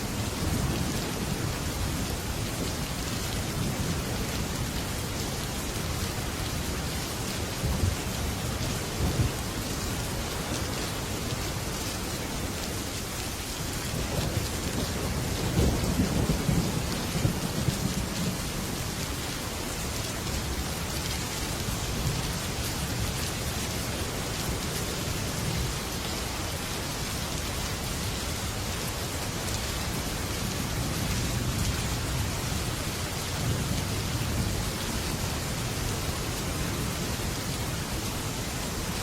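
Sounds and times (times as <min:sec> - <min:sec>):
heavy rain on a metal roof: 0:00.0 - 0:39.0.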